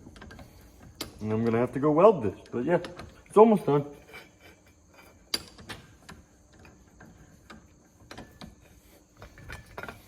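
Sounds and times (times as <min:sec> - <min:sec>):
metal parts clicking and tapping: 0:00.0 - 0:10.0.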